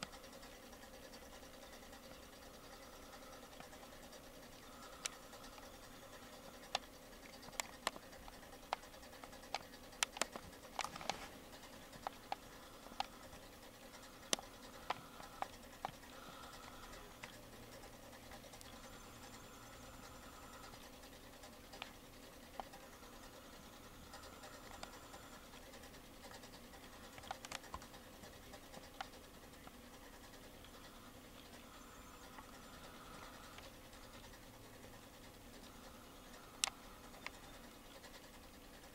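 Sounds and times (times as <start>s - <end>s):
faint electric hum: 0.0s - 38.9s
handling clicks and scratches: 2.8s - 38.9s.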